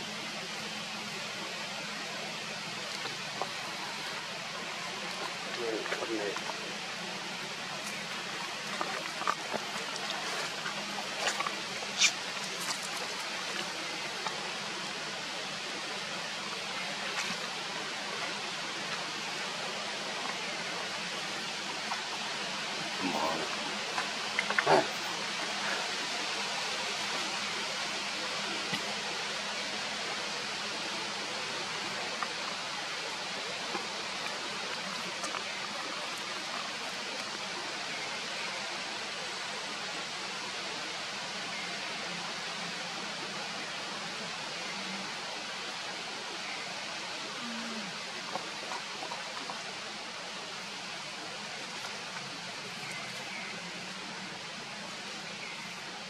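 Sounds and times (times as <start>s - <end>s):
steady outdoor hiss: 0.0s - 56.0s.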